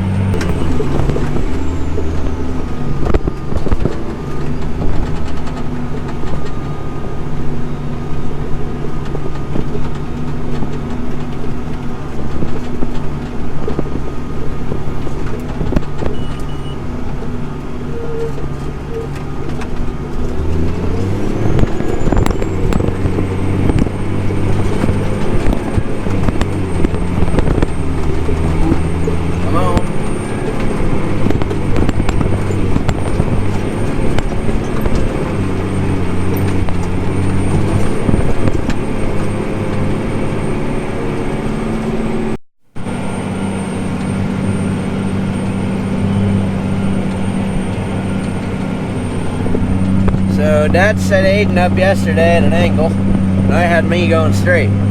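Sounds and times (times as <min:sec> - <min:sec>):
tractor engine under load: 0:00.0 - 0:54.9.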